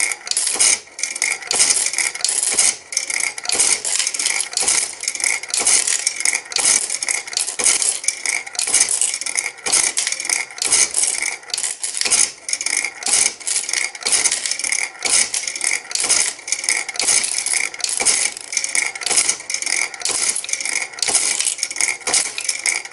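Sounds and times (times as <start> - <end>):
coins clinking into payout tray: 0.0 - 22.9.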